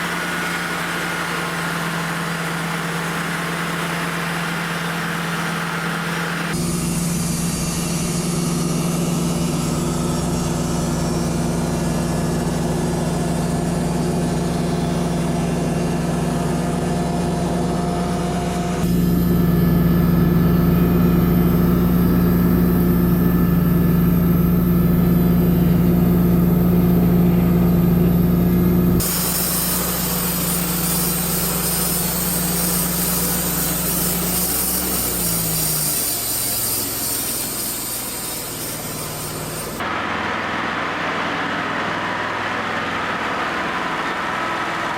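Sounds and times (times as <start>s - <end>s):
bandsaw mill engine running: 0.0s - 44.9s.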